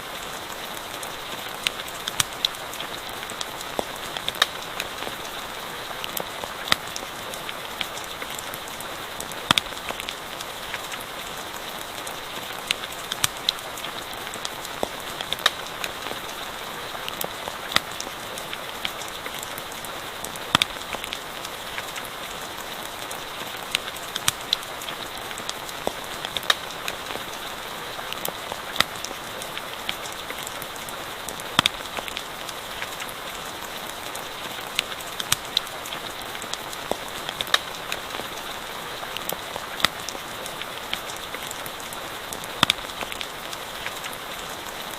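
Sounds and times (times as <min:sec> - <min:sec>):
campfire crackling and popping: 0:00.0 - 0:44.9
steady rain hiss: 0:00.0 - 0:44.9.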